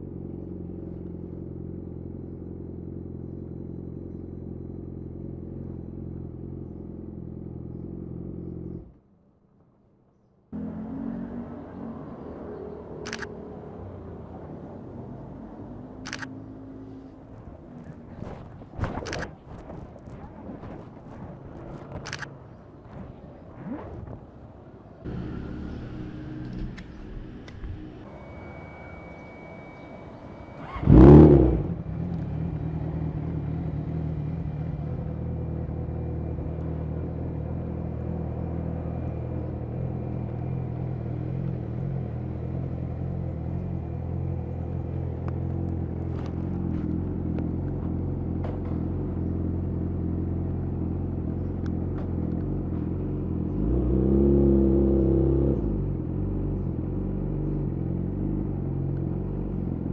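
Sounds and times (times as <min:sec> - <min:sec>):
motorcycle engine revving: 0:00.0 - 0:09.0, 0:10.5 - 0:18.6, 0:25.0 - 0:59.9
motorcycle engine starting and idling: 0:00.0 - 0:09.1, 0:10.2 - 0:19.5, 0:25.0 - 0:59.9.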